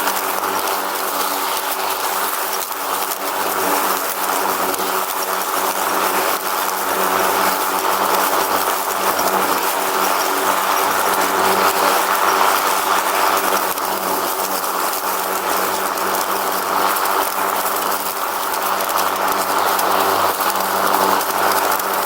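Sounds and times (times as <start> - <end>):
riding lawn mower engine: 0.0 - 22.0.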